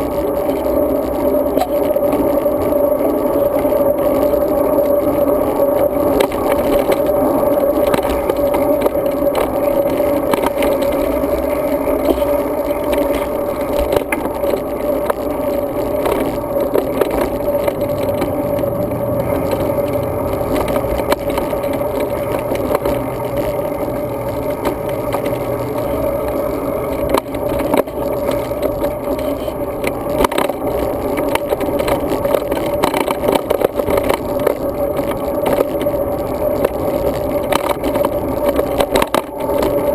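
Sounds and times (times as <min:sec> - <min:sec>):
bike rattles and clicks: 0:00.0 - 0:39.9
tyres and wind rumble: 0:00.0 - 0:39.9.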